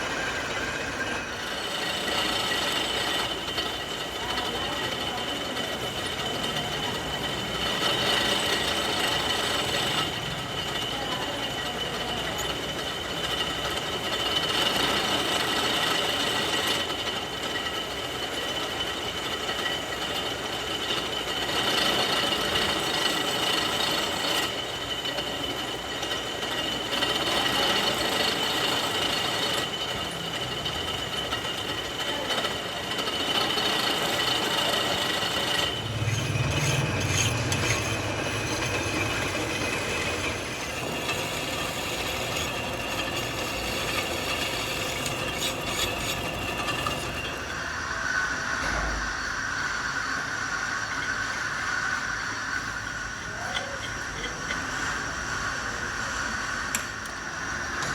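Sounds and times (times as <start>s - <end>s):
factory machinery whining: 0.0s - 57.9s
machine humming: 0.0s - 57.9s.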